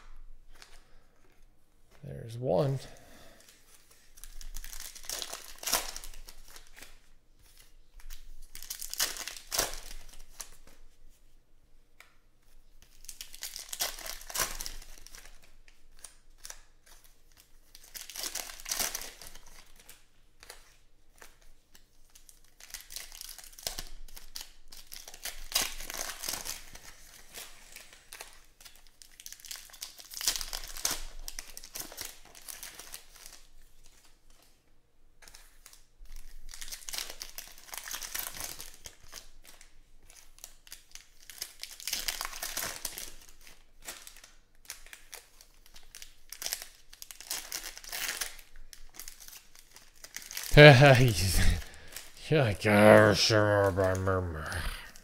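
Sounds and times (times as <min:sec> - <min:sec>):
foil wrappers crinkling and tearing: 0:03.4 - 0:11.0, 0:12.8 - 0:34.5, 0:35.2 - 0:50.5.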